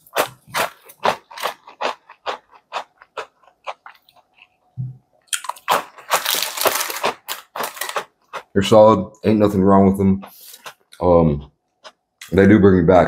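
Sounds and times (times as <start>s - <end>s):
crunchy chewing of cookies: 0.0s - 4.7s, 5.3s - 12.4s.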